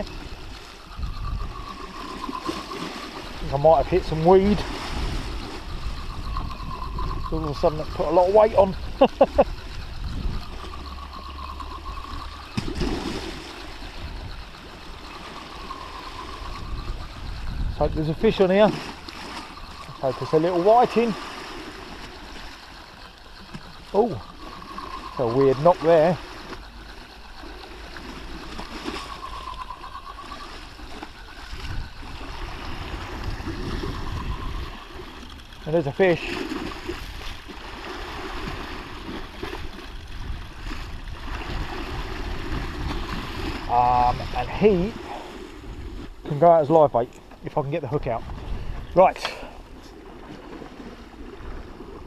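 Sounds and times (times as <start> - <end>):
wind buffeting microphone: 0.0 - 27.4, 28.0 - 46.3, 47.0 - 52.0
sea wash: 0.0 - 52.0
thin steady whine: 0.0 - 52.0.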